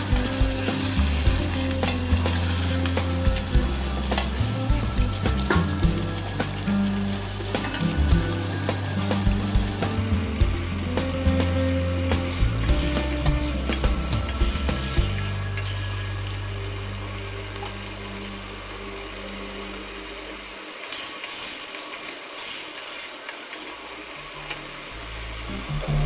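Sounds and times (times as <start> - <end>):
low steady hum: 0.0 - 20.8, 24.1 - 26.0
chicken sizzling in a pot: 0.0 - 26.0.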